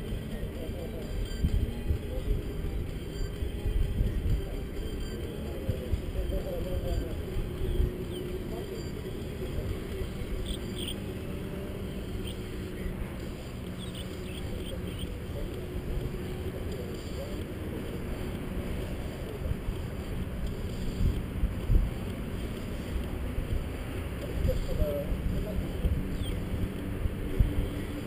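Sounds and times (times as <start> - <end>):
engine humming: 0.0 - 28.0
faint distant voices: 0.0 - 28.0
wind rumbling on microphone: 1.1 - 28.0.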